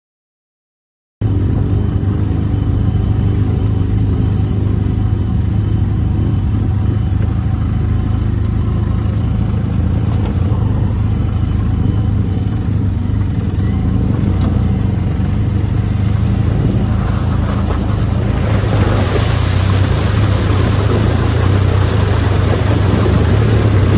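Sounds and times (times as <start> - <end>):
motorcycle engine running: 1.2 - 23.9
wind rumble on microphone: 1.2 - 23.9.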